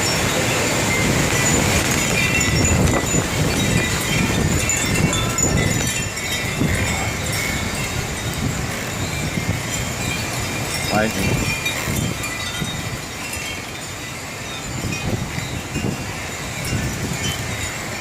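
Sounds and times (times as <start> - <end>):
storm wind buffeting microphone: 0.0 - 18.0.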